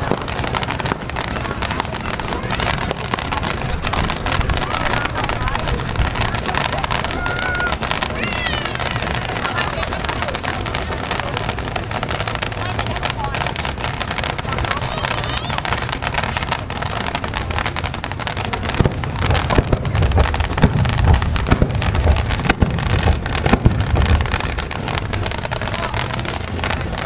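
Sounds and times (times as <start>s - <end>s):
fireworks bangs and crackles: 0.0s - 27.0s
wind noise on microphone: 0.0s - 27.0s.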